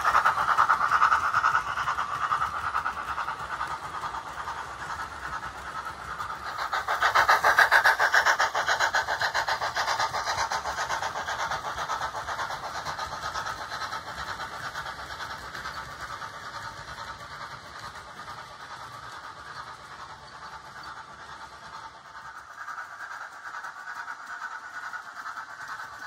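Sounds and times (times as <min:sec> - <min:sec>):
model train wheels clattering: 0:00.0 - 0:26.0.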